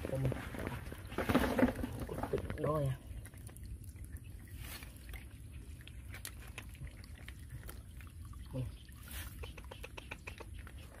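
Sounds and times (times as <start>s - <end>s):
water dripping and trickling: 2.0s - 11.0s.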